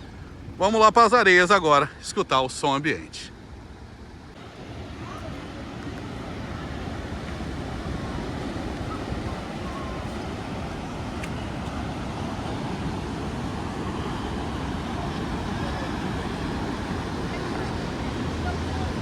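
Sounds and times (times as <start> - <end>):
road traffic passing: 3.2 - 19.0.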